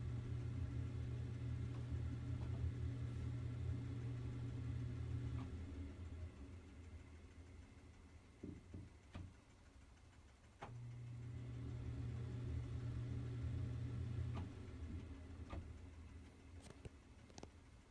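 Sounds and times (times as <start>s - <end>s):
exhaust fan humming: 0.0s - 17.9s.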